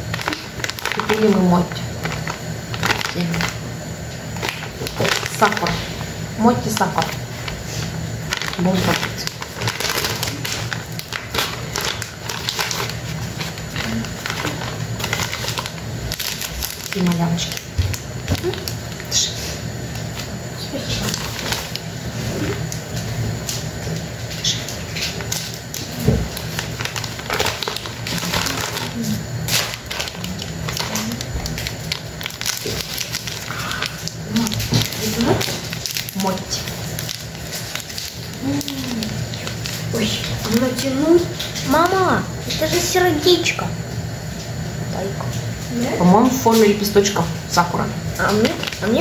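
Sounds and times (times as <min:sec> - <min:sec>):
plastic bag crinkling: 0:00.0 - 0:43.5, 0:45.0 - 0:49.0.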